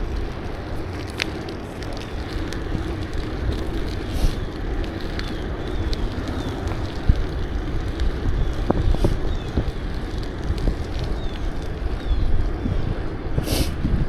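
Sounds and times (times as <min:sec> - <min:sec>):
low rumble of bicycle ride: 0:00.0 - 0:14.0
wind buffeting microphone: 0:00.0 - 0:14.0.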